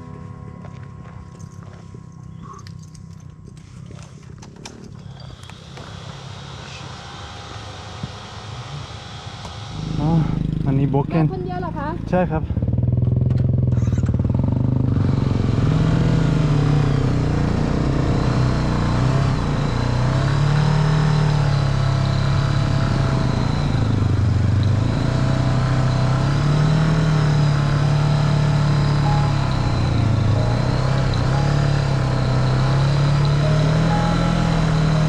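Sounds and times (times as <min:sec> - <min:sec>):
motorcycle engine revving: 0:03.6 - 0:35.0.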